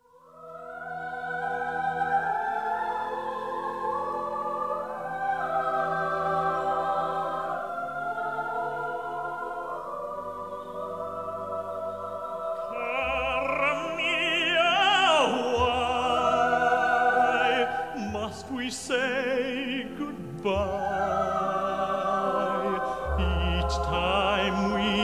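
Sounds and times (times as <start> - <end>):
orchestral strings chords: 0.4 - 25.0.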